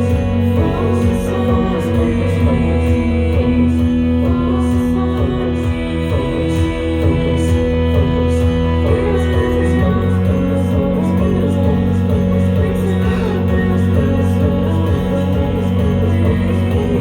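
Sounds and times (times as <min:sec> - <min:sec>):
guitars: 0:00.0 - 0:17.0.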